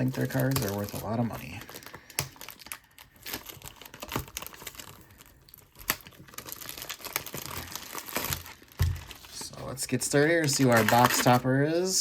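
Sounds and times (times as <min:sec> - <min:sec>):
packaging snapping: 0:00.0 - 0:09.5, 0:10.2 - 0:11.5
plastic wrapping crinkling: 0:00.0 - 0:12.0.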